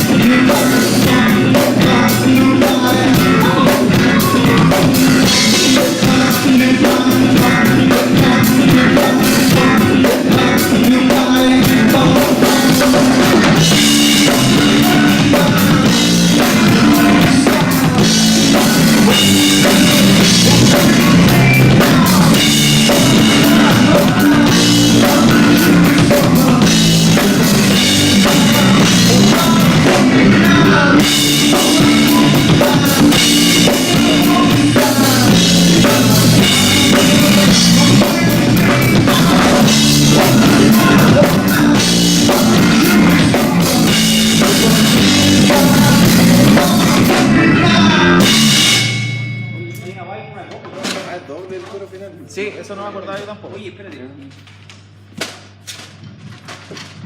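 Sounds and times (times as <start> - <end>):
bass guitar: 0.0 - 51.0
electric guitar: 0.0 - 51.0
drum kit: 0.0 - 52.4.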